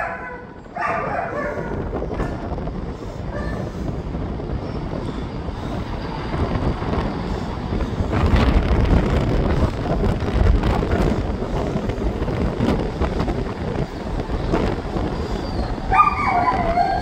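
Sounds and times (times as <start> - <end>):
train rumbling through station: 0.0 - 17.0
wind on microphone: 0.0 - 17.0.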